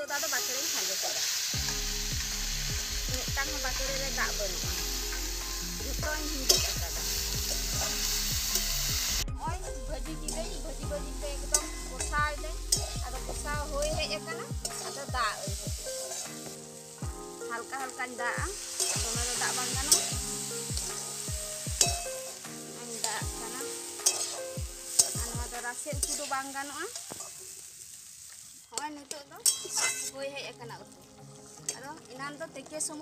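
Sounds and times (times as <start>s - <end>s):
curry sizzling in a wok: 0.0s - 33.0s
metal spatula scraping wok: 0.2s - 16.9s, 17.9s - 27.6s, 28.8s - 30.3s.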